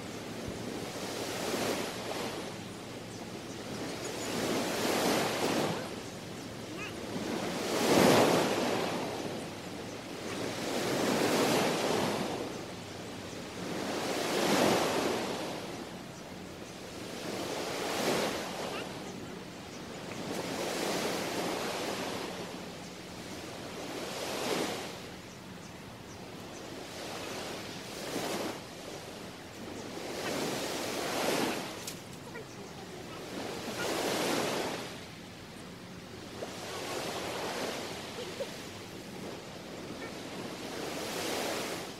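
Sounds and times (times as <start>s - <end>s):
small waves breaking on sand: 0.0s - 41.9s.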